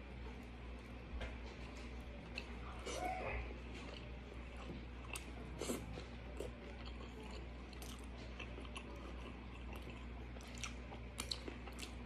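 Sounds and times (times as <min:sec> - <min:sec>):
low steady hum: 0:00.0 - 0:12.0
person chewing food: 0:00.3 - 0:12.0.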